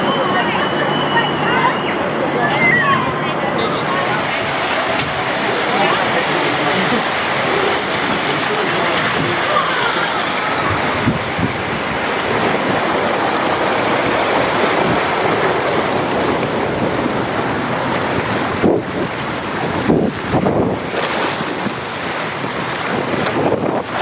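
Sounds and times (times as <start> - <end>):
water rushing down waterslide: 0.0 - 24.0
wind on microphone: 3.9 - 24.0.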